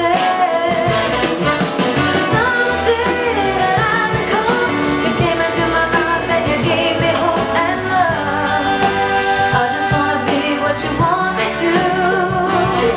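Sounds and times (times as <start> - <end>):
pop song with singing: 0.0 - 12.9.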